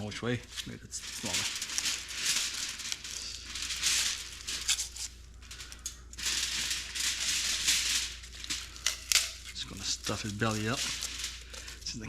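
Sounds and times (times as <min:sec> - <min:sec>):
crinkling rustling handling noise: 0:00.0 - 0:12.0.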